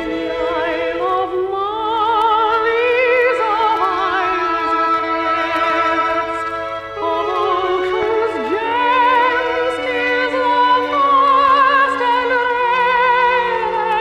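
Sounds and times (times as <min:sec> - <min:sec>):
orchestral accompaniment: 0:00.0 - 0:14.0
woman singing operatically: 0:00.0 - 0:14.0.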